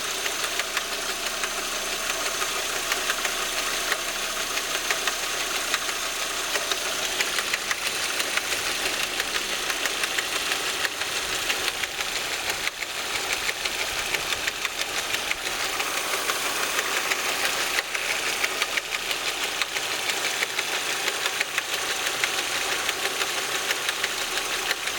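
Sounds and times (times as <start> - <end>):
car engine running: 0.0 - 24.9
engine ticking clatter: 0.0 - 24.9.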